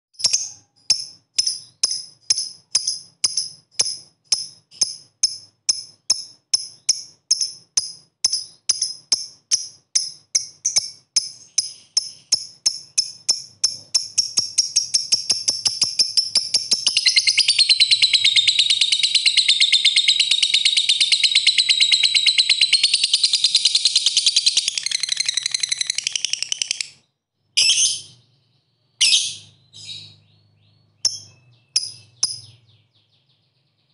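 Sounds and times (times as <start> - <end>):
lovebird chirping and chattering: 0.2 - 33.9.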